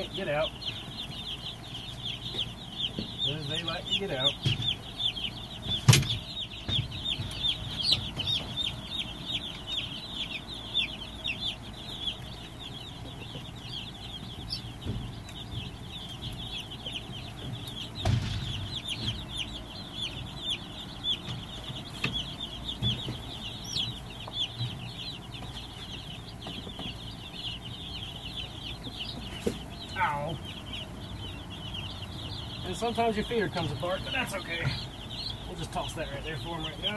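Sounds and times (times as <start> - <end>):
chicks peeping: 0.0 - 36.9.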